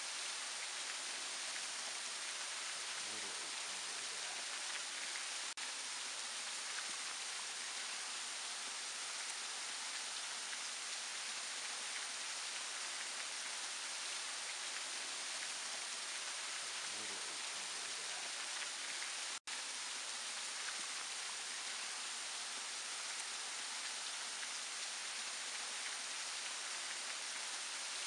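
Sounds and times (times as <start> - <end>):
waterfall splashing on rock: 0.0 - 28.0.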